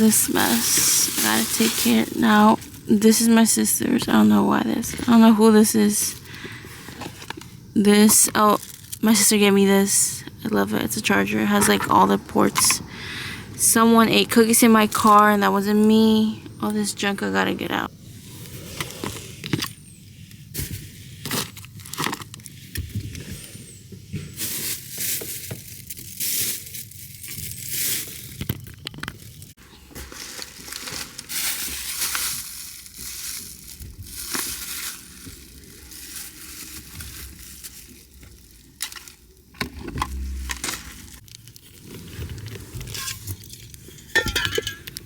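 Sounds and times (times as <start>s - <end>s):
wrappers and bags crinkling: 0.0s - 12.8s, 17.7s - 45.0s.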